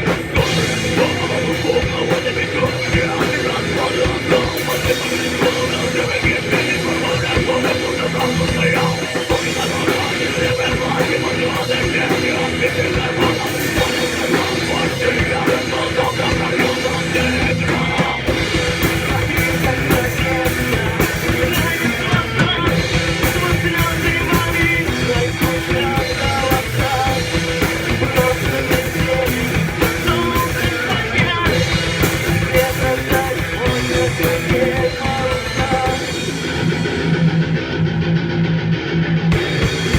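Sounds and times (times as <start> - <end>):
person singing: 0.0 - 36.4
drum kit: 0.0 - 39.9
electric guitars: 0.0 - 39.9.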